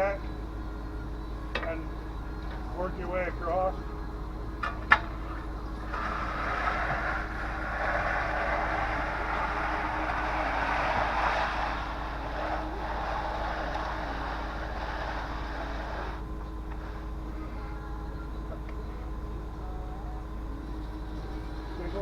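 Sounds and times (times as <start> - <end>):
truck engine humming: 0.0 - 22.0.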